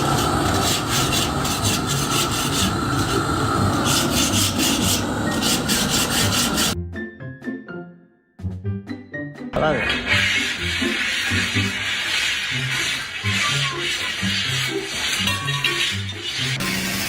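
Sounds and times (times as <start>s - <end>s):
harsh rasping scraping strokes: 0.0s - 6.8s, 9.6s - 17.0s.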